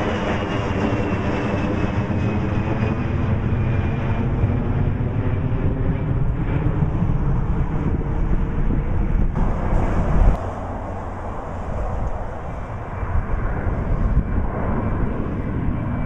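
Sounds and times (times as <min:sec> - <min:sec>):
jet airliner engine rumble: 0:00.0 - 0:16.0.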